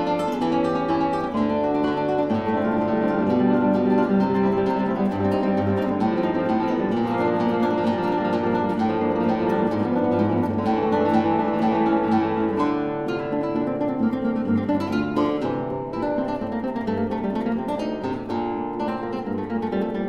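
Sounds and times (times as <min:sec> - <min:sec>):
acoustic guitar plucked notes: 0:00.0 - 0:20.0.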